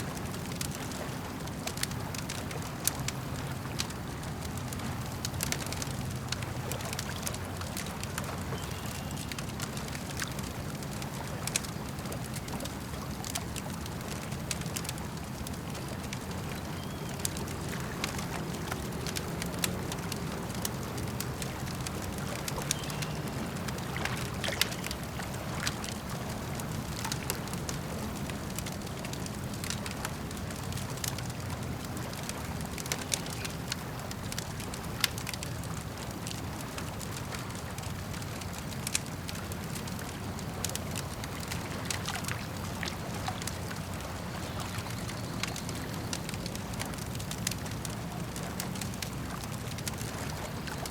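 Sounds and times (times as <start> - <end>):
campfire crackling and popping: 0.0 - 50.9
lake water lapping: 0.0 - 50.9.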